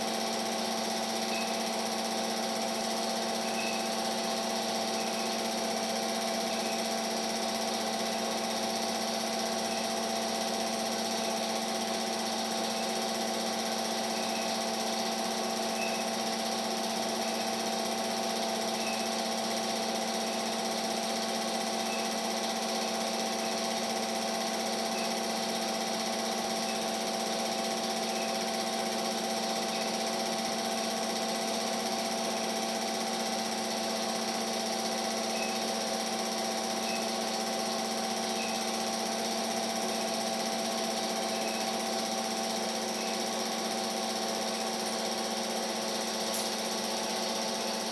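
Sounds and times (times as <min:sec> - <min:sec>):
small motor humming: 0:00.0 - 0:47.9.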